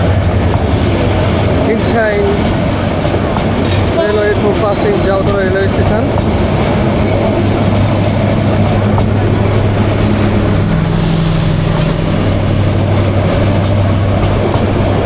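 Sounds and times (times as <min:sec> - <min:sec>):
diesel locomotive engine drone: 0:00.0 - 0:15.0
train passing with loud rumble: 0:00.0 - 0:15.0.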